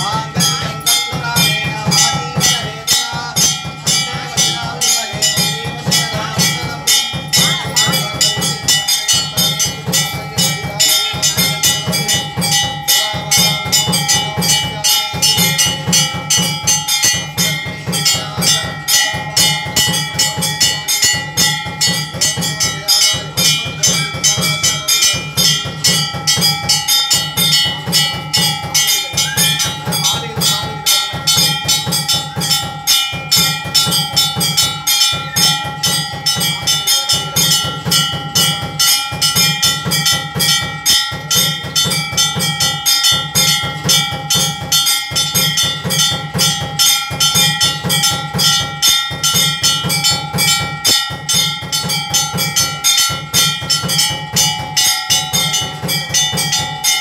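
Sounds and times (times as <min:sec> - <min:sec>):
bells ringing: 0:00.0 - 0:57.0
fast continuous drumming: 0:00.0 - 0:57.0
steady held tone: 0:00.0 - 0:57.0.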